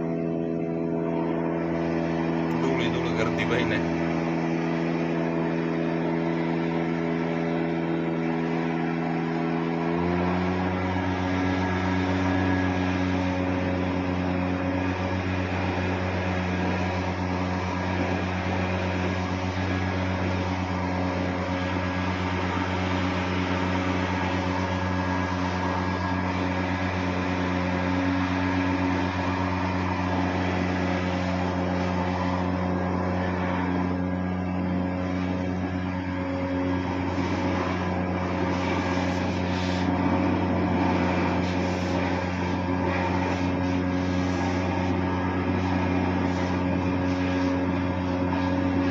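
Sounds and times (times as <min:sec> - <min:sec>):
rush of blowing air: 0:00.0 - 0:48.9
tractor engine running: 0:00.0 - 0:48.9.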